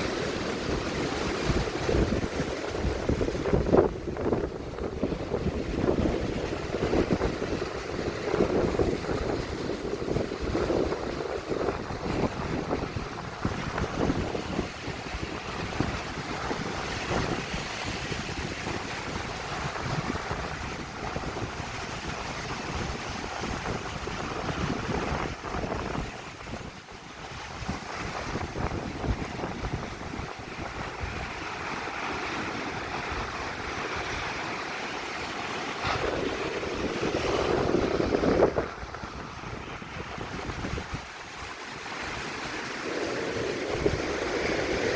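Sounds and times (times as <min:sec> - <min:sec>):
surf breaking on beach: 0:00.0 - 0:44.9
wind buffeting microphone: 0:00.0 - 0:44.9.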